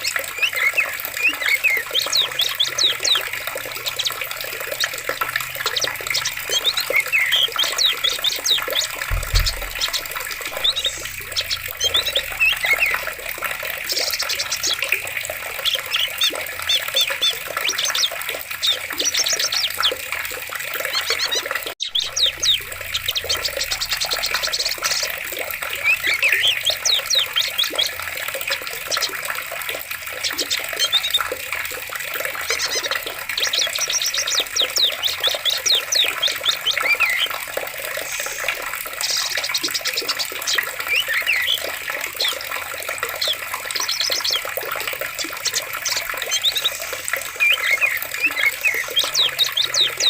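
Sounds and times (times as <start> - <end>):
birds chirping and trilling: 0.0 - 50.0
flowing water: 0.0 - 50.0.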